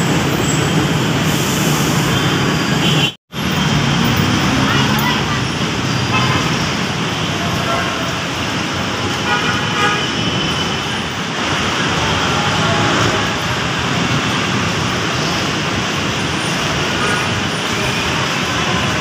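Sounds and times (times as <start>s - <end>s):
heavy city road traffic: 0.0s - 19.0s.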